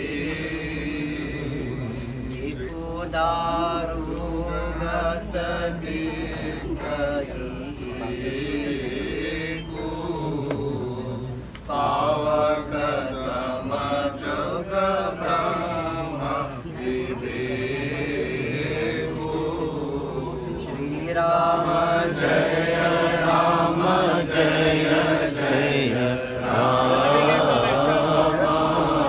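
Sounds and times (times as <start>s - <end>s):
voices chanting in unison: 0.0s - 29.0s.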